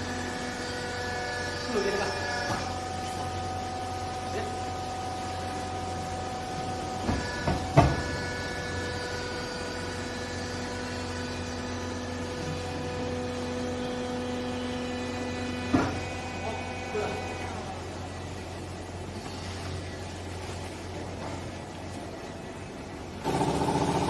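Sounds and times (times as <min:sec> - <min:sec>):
hydraulic pump motor hum: 0:00.0 - 0:24.0.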